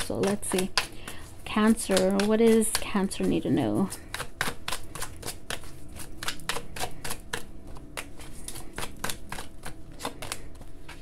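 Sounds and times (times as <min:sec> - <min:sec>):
cards being shuffled: 0:00.1 - 0:11.0.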